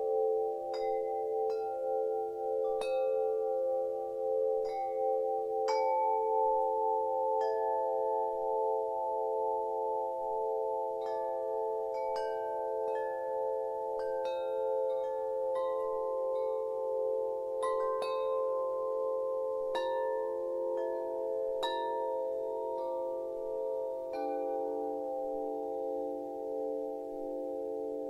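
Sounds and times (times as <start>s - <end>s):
chimes ringing: 0.0s - 28.0s
low sustained tones: 0.0s - 28.0s.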